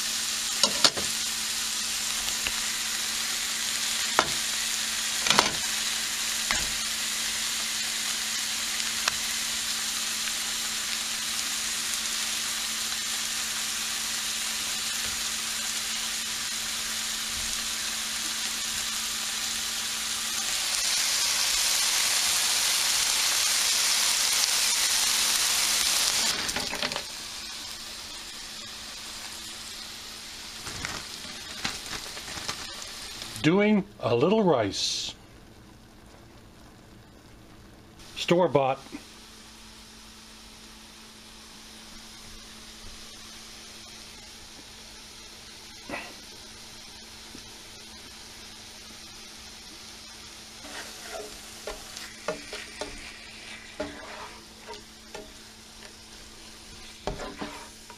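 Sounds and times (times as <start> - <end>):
food sizzling in a skillet: 0.0 - 57.9.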